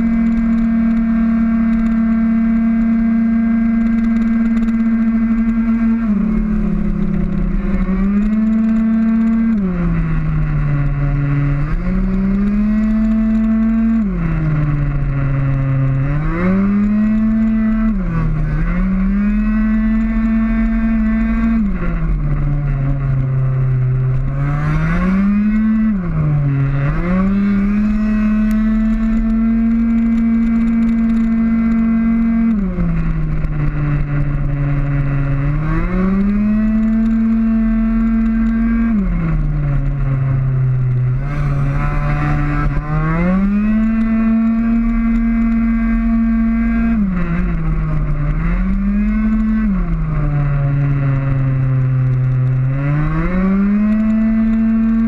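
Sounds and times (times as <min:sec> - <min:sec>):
two-stroke scooter engine revving: 0:00.0 - 0:55.0
wind rumble: 0:00.0 - 0:55.0.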